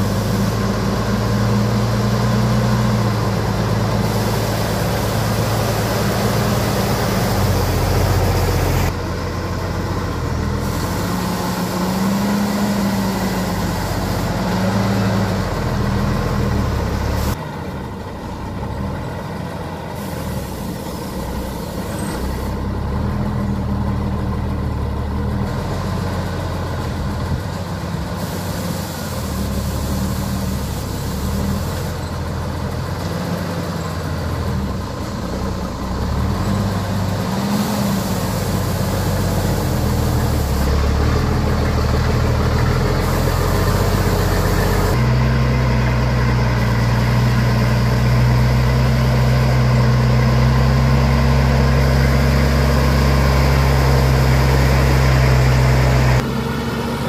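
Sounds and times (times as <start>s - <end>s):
truck engine labouring: 0.0s - 57.0s.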